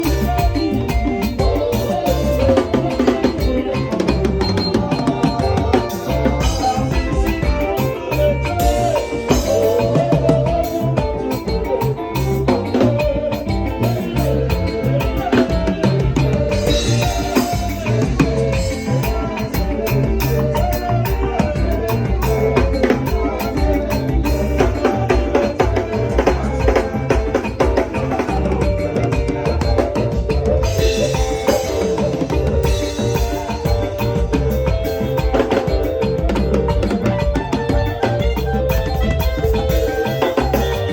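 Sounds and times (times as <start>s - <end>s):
bass line: 0.0s - 40.9s
drum kit and percussion: 0.0s - 40.9s
melodic instruments: 0.0s - 40.9s
sustained keyboard or guitar tones: 0.0s - 40.9s.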